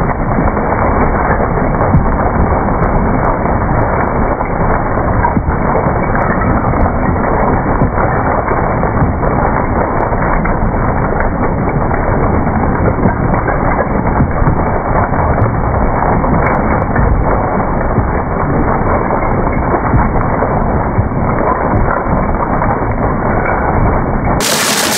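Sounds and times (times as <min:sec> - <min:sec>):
rock crusher cracking and grinding: 0:00.0 - 0:24.9.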